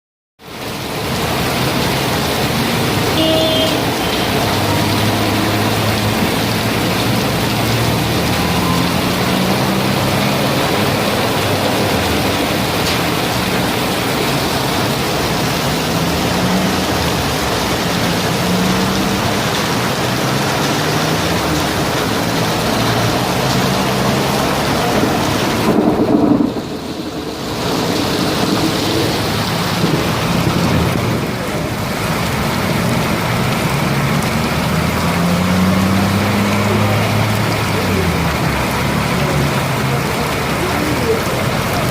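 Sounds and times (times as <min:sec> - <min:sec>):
heavy rain pouring: 0:00.4 - 0:41.9.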